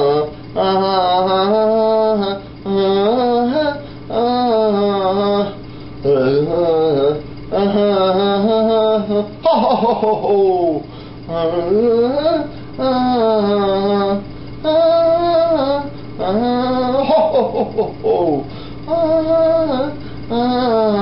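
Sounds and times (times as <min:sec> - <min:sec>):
person singing slow melody: 0:00.0 - 0:21.0.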